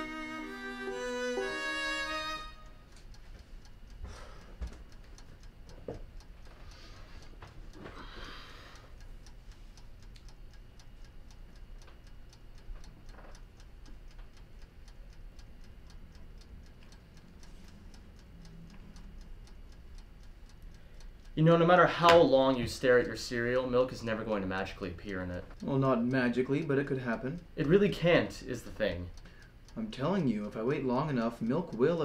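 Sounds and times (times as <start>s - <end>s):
clock ticking: 0.0s - 32.0s
low room hum: 0.0s - 32.0s.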